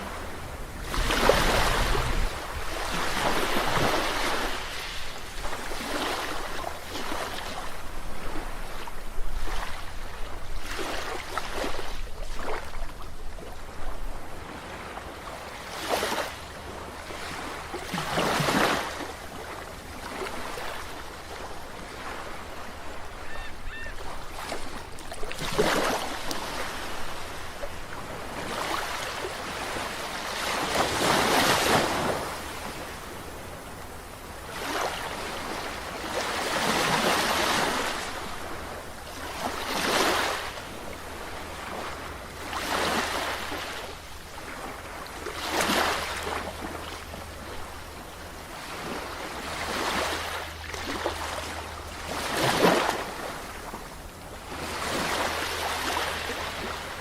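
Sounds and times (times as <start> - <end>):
ocean waves breaking: 0.0 - 57.0.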